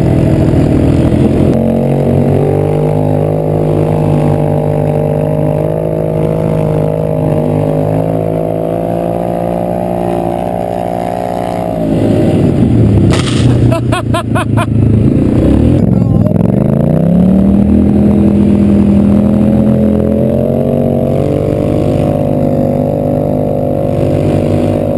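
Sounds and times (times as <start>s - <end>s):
go-kart engine running: 0.0s - 24.9s.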